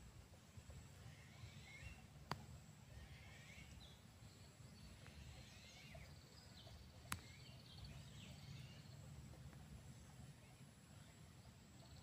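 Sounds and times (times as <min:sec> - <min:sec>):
low steady rumble: 0:00.0 - 0:12.0
faint high bird chirps: 0:00.9 - 0:12.0.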